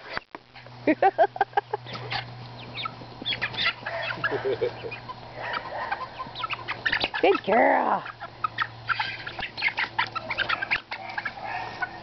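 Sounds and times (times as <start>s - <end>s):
chicks clucking and squawking: 0.0s - 12.0s.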